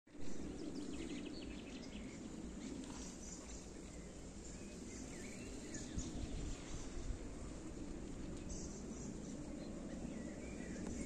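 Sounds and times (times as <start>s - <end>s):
low background noise: 0.1s - 11.0s
small birds chirping: 0.1s - 11.0s.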